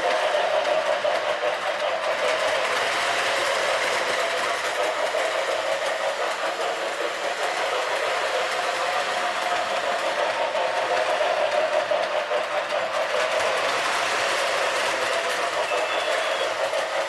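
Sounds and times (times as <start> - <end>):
toy train motor whine: 0.0 - 17.0
wheel and rail rumble: 0.0 - 17.0.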